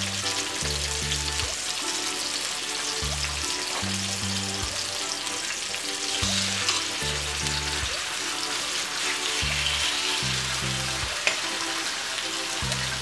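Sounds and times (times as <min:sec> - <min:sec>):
background music with low notes: 0:00.0 - 0:13.0
chicken sizzling in a frying pan: 0:00.0 - 0:13.0.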